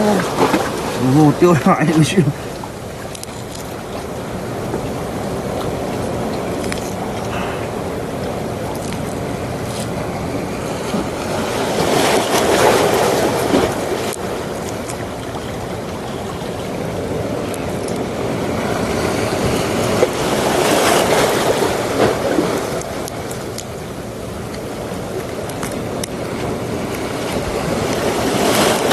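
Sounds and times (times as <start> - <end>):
waves breaking on rocky shore: 0.0 - 28.9.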